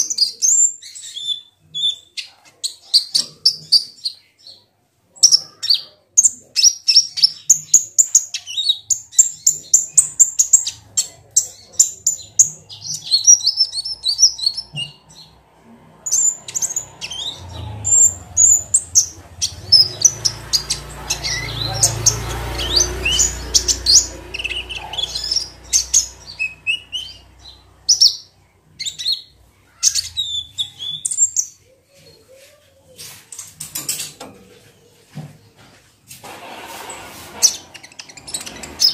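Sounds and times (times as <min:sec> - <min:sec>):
bird chirping and trilling: 0:00.0 - 0:04.6, 0:05.2 - 0:15.4, 0:16.0 - 0:32.3, 0:37.4 - 0:38.9.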